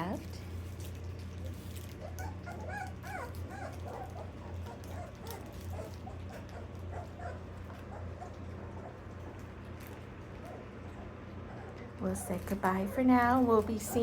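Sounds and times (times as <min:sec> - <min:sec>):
steady low hum: 0:00.0 - 0:14.0
puppies whimpering and yipping: 0:01.4 - 0:14.0.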